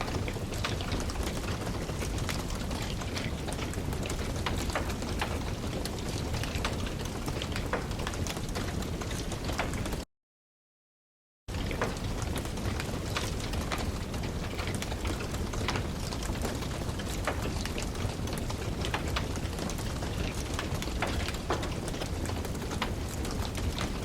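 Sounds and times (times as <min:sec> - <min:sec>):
wood fire crackling: 0:00.0 - 0:10.0, 0:11.5 - 0:24.0.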